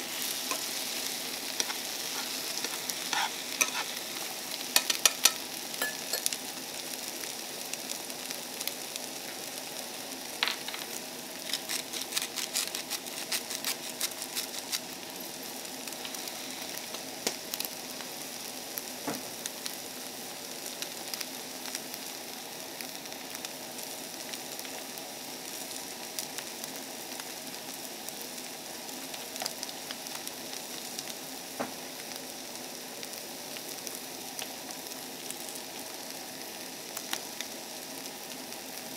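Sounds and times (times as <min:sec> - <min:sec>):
vegetables sizzling in a frying pan: 0:00.0 - 0:38.9.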